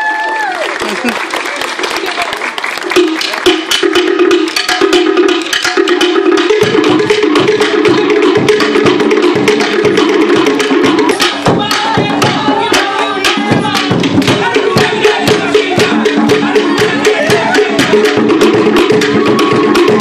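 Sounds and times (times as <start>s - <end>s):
hand drums: 2.8s - 20.0s
wooden slit drum struck rapidly: 3.0s - 20.0s.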